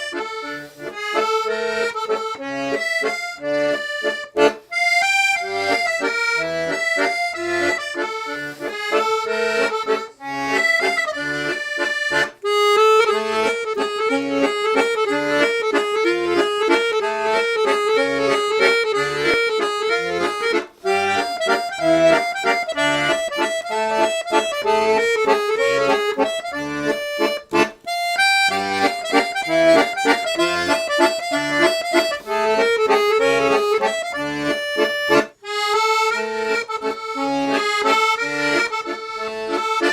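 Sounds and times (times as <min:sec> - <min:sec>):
button accordion melody: 0:00.0 - 0:39.9.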